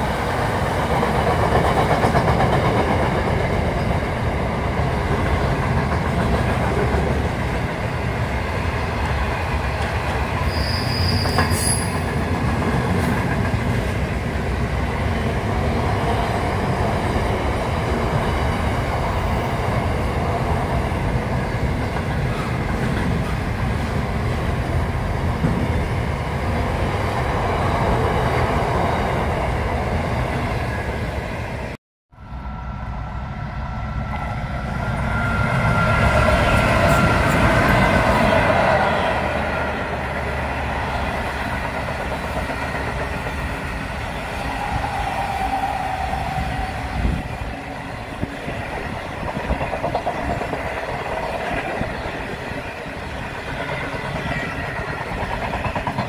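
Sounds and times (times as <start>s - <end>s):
train clickety-clack on rails: 0.0s - 31.2s, 34.1s - 56.0s
held train tones: 0.0s - 56.0s.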